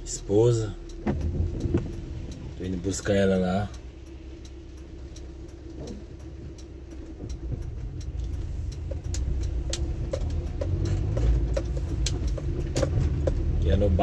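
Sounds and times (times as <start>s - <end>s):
car engine and tyres on wet road: 0.0s - 14.0s
rain tapping on windshield: 0.0s - 14.0s.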